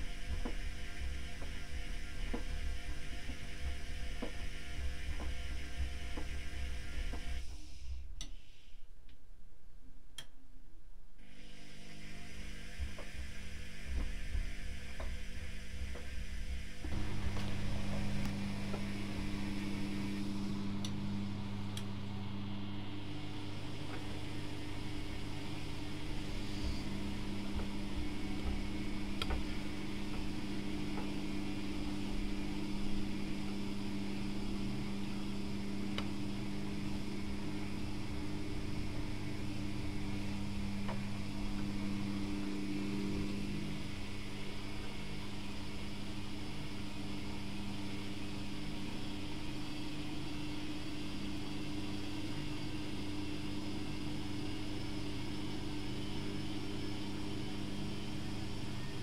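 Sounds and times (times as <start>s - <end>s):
washing machine motor humming: 0.0s - 8.5s, 11.2s - 59.0s.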